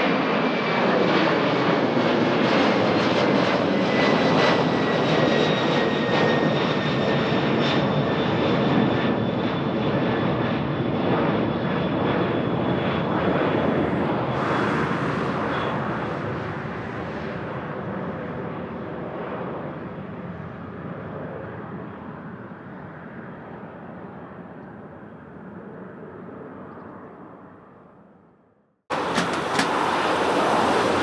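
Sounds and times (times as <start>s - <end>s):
airliner engine noise: 0.0s - 28.3s, 28.9s - 31.0s.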